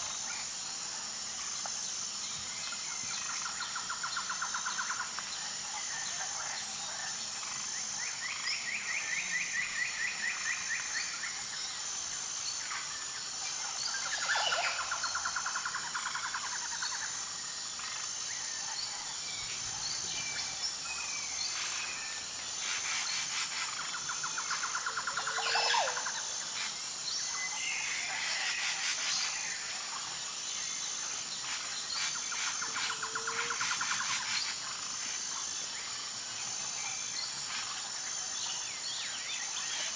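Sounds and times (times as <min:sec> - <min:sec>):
pulsing insect chorus: 0:00.0 - 0:39.9.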